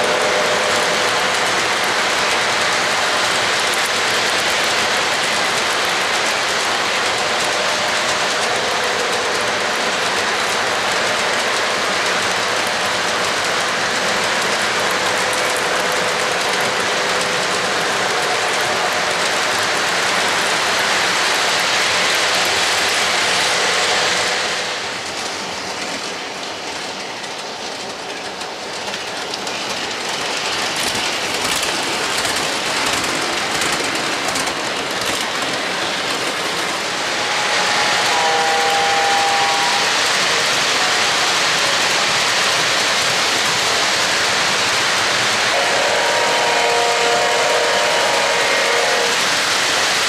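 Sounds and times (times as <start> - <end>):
model train wheels on rails: 0.0 - 50.0.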